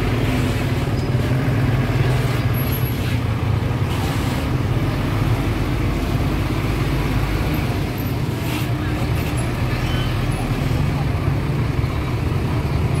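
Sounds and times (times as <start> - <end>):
road noise: 0.0 - 13.0
vehicle engines running: 0.0 - 13.0.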